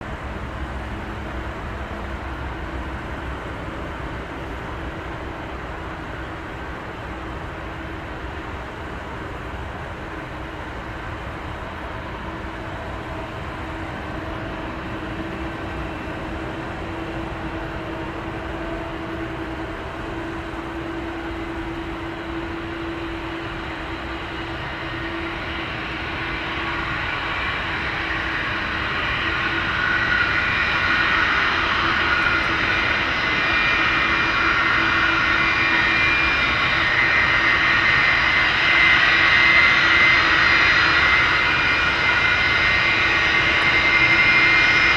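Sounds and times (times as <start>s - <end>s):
high multi-tone engine whine: 0.0s - 44.9s
jet airliner engines rumbling: 0.0s - 44.9s.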